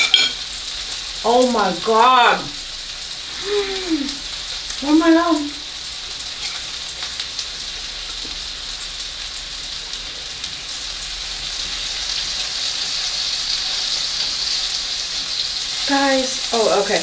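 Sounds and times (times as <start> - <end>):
meat sizzling on hot stone: 0.0 - 17.0.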